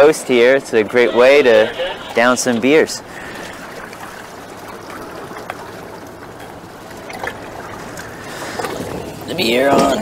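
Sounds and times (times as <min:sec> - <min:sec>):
liquid trickling: 0:00.9 - 0:10.0.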